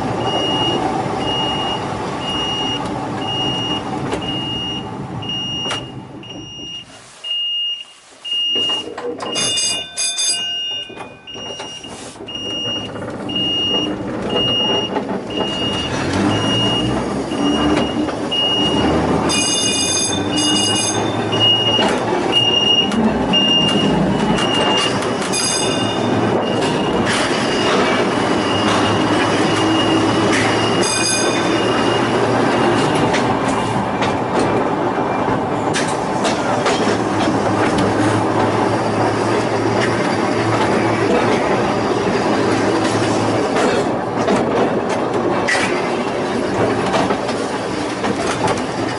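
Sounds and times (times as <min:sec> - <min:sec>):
railway car wheel rumble: 0:00.0 - 0:48.9.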